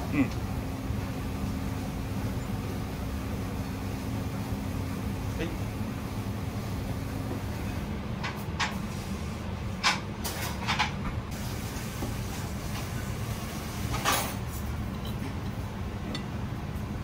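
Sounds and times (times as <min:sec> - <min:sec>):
kitchen ventilation hum: 0:00.0 - 0:17.0.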